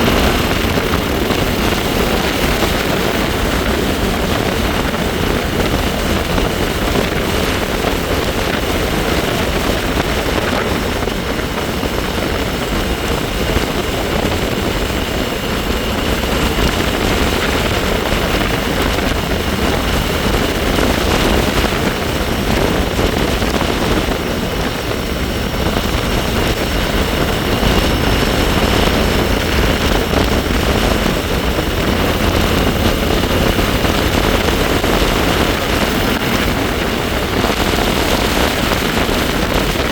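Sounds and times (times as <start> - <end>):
bike high-pitched whine: 0.0 - 39.9
wind rushing over microphone: 0.0 - 39.9.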